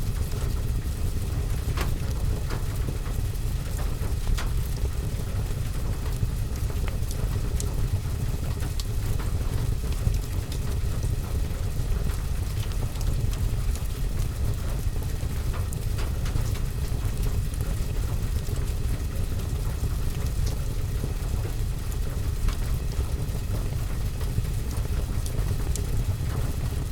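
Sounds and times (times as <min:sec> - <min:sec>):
rain on a roof and window: 0:00.0 - 0:26.9
wood fire crackling: 0:00.1 - 0:26.9.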